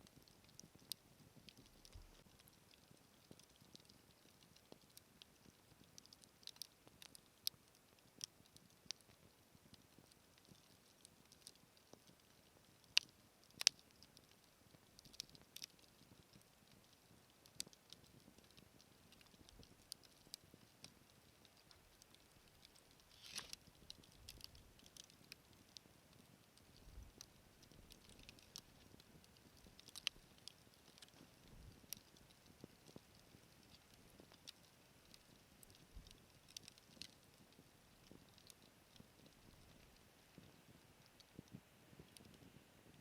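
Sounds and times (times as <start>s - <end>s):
wood fire crackling and popping: 0.0s - 43.0s.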